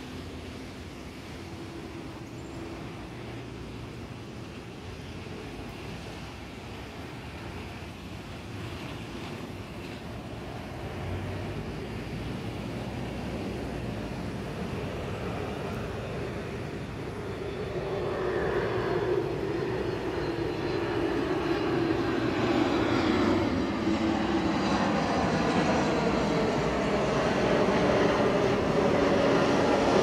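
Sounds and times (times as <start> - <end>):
jet airliner rumble: 0.0 - 30.0.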